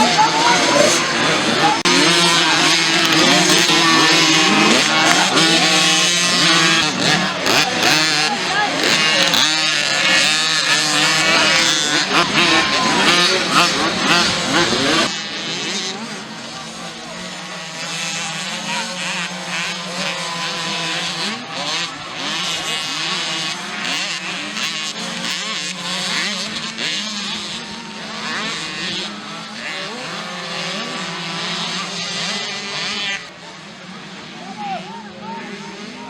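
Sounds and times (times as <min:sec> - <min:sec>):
mini motocross bikes revving: 0:00.0 - 0:36.0.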